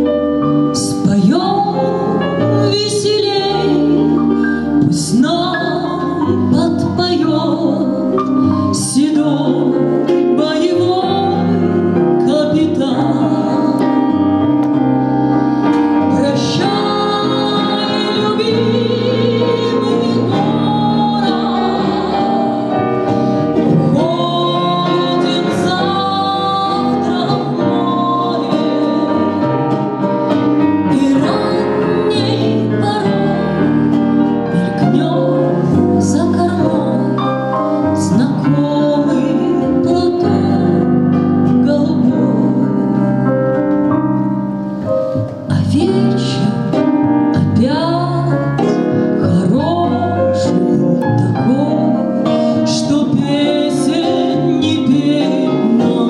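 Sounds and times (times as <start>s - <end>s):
acoustic guitar: 0.0s - 56.0s
woman singing into a microphone: 0.3s - 56.0s.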